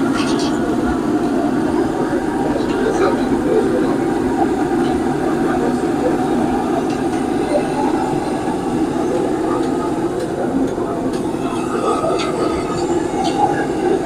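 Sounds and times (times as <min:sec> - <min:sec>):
indistinct voices: 0:00.0 - 0:14.0
low restaurant rumble: 0:00.0 - 0:14.0.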